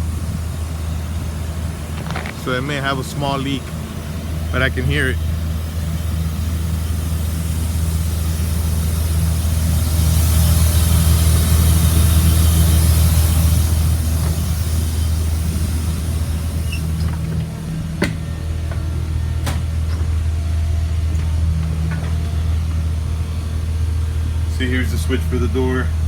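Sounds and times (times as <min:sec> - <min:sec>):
compressed air hissing: 0:00.0 - 0:25.2
diesel engine idling: 0:00.0 - 0:26.0.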